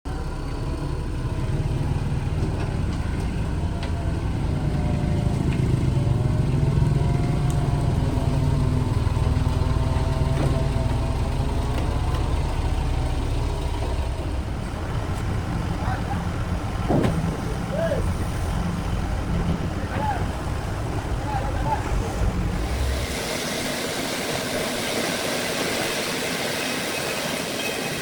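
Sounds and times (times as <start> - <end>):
large engine droning: 0.1 - 28.0.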